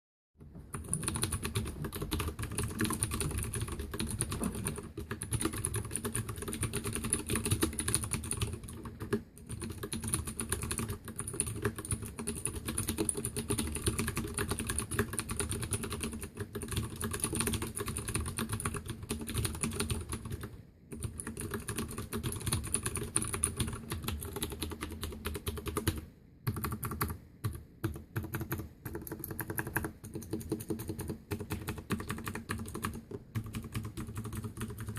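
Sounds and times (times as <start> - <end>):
mechanical keyboard typing: 0.4 - 34.9.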